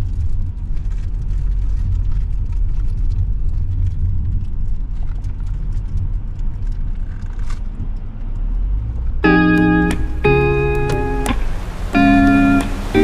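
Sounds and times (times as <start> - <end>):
car road rumble from inside: 0.0 - 13.0.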